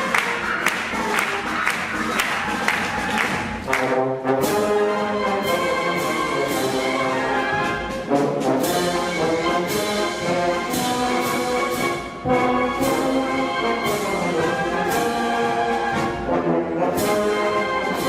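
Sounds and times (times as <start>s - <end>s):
held brass chords: 0.0s - 18.0s
steady percussive beat: 0.0s - 18.0s.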